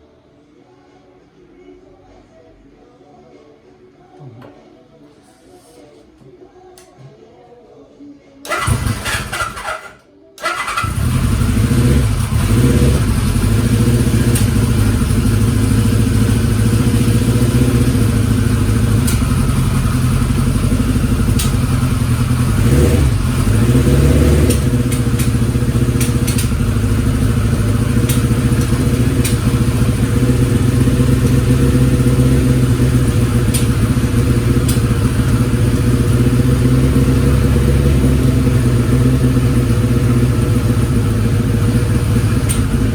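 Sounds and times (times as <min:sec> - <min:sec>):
engine revving: 0:08.5 - 0:42.9
motorcycle engine starting and idling: 0:08.5 - 0:42.9.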